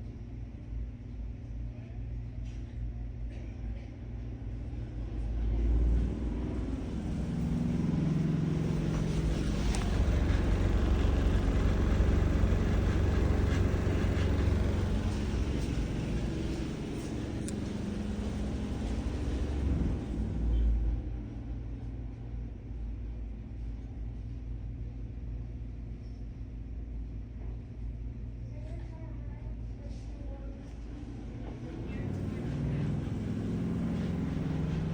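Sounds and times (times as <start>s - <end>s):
exhaust fan humming: 0.0s - 34.9s
fan vibrating rattle: 0.0s - 34.9s.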